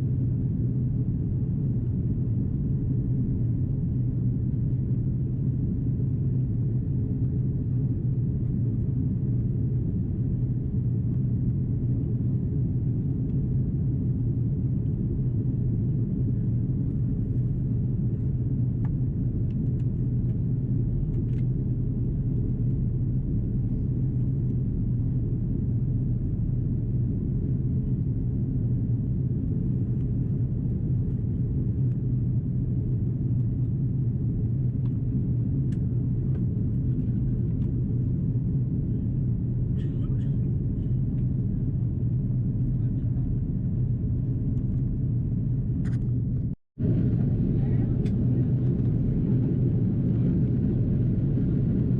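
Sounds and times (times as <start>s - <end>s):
aircraft cabin engine drone: 0.0s - 51.9s.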